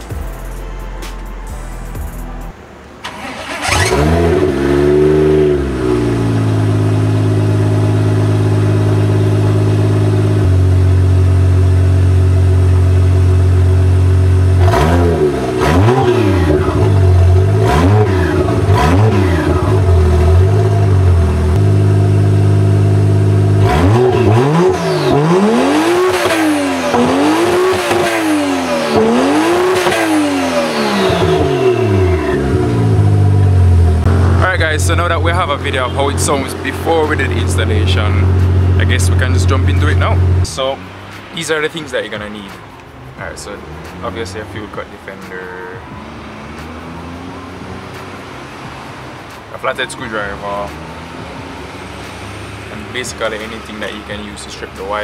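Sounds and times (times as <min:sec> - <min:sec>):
car engine starting and idling: 0:00.0 - 0:55.0
engine revving: 0:03.0 - 0:55.0.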